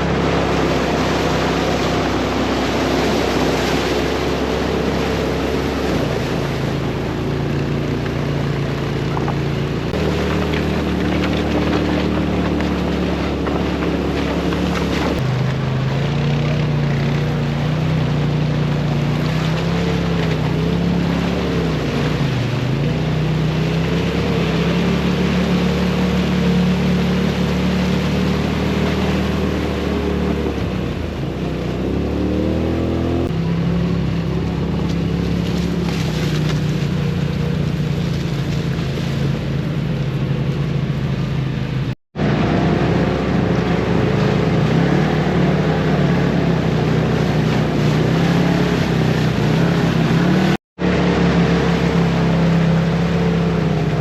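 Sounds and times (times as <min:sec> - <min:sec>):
vehicle engine droning: 0:00.0 - 0:54.0
water splashing: 0:00.0 - 0:54.0
wind: 0:00.0 - 0:54.0.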